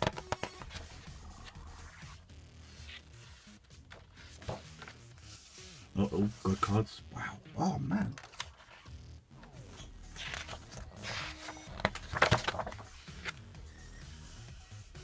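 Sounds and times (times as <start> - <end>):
book pages turning: 0.0 - 6.8, 8.0 - 13.5.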